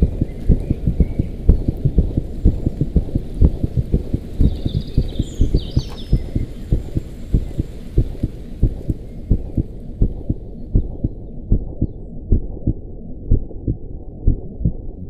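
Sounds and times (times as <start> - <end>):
low heavy electronic thumps: 0.0 - 15.0.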